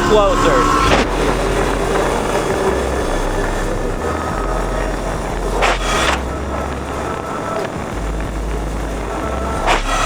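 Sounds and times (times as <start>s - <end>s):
dirt bike engine running: 0.0s - 10.0s
wind on microphone: 0.0s - 10.0s.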